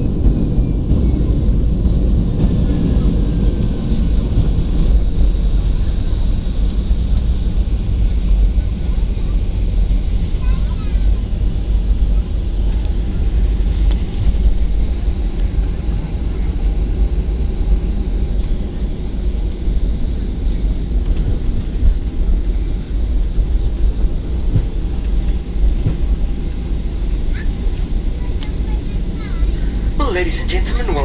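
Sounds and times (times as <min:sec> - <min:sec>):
aircraft cabin rumble: 0:00.0 - 0:31.0.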